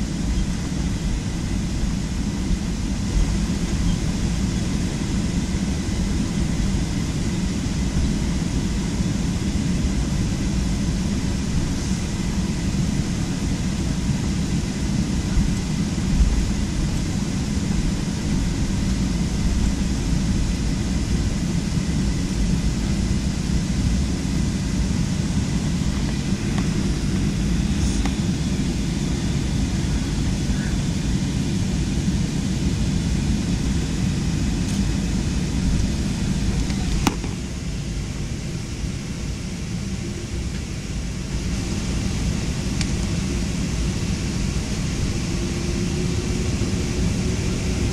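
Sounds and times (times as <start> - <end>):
jet cabin engine rumble: 0.0 - 47.9.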